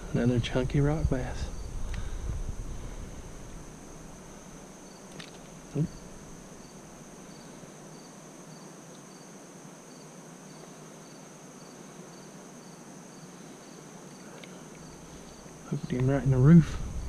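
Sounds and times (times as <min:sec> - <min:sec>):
insect chirping: 0:00.0 - 0:17.0
insects droning: 0:00.0 - 0:17.0.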